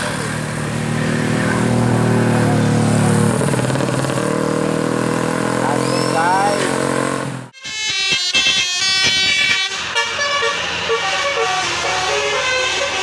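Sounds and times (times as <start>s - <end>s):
vehicles passing close by: 0.0s - 7.6s, 8.3s - 13.0s.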